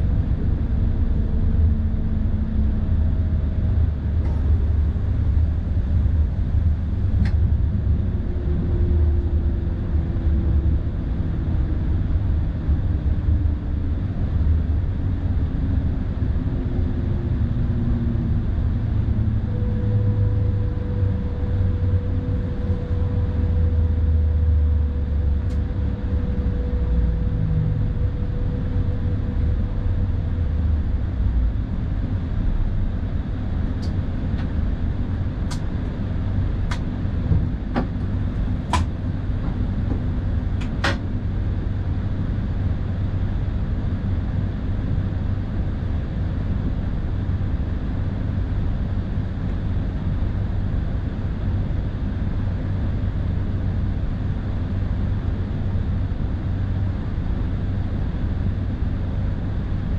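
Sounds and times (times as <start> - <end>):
electric train rumbling: 0.0 - 59.9
thin steady whine: 0.0 - 59.9.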